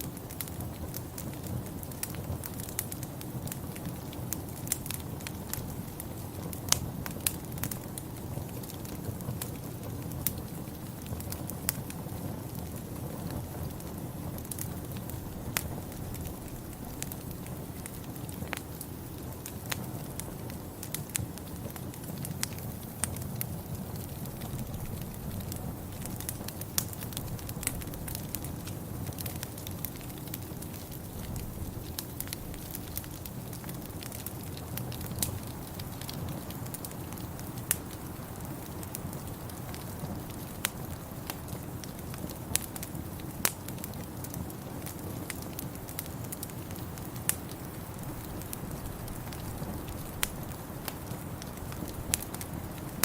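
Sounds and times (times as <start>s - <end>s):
low steady fire rumble: 0.0s - 53.0s
wood fire crackling and popping: 0.0s - 53.0s.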